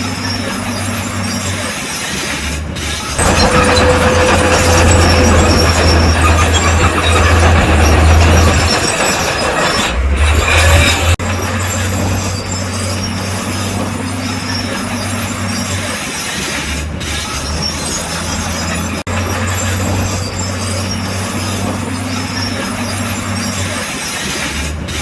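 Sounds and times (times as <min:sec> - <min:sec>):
steel tracks clattering and squealing: 0:00.0 - 0:25.0
bulldozer diesel engine running: 0:02.4 - 0:25.0.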